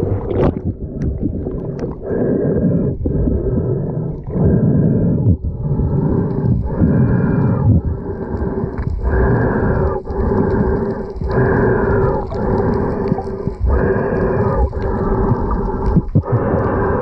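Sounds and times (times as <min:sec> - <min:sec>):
underwater rush of water: 0:00.0 - 0:17.0.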